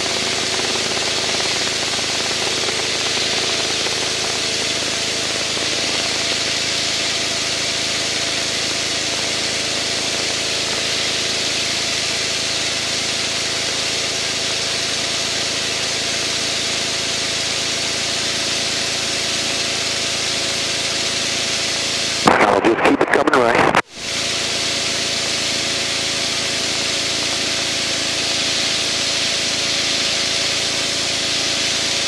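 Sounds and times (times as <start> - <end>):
aircraft engine drone: 0.0 - 32.0.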